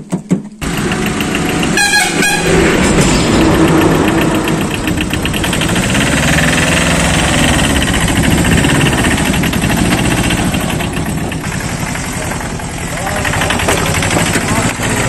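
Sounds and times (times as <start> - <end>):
truck engine clattering: 0.5 - 15.0.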